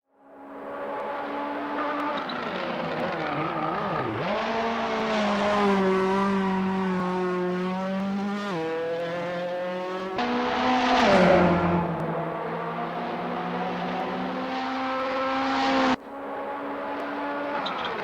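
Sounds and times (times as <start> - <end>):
race car engine revving: 0.7 - 18.0.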